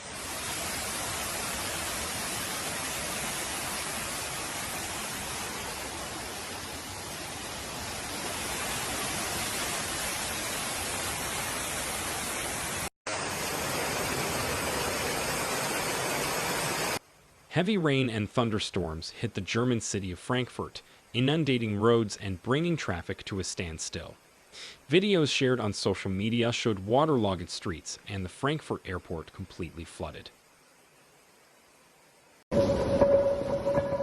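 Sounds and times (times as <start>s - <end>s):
heavy rain hiss: 0.0s - 33.0s.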